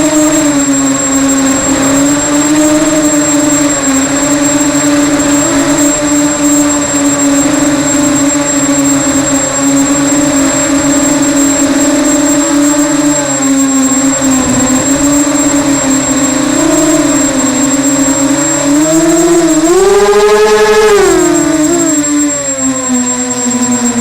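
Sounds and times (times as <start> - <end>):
drone propellers buzzing: 0.0 - 24.0
thin high whine: 0.0 - 24.0.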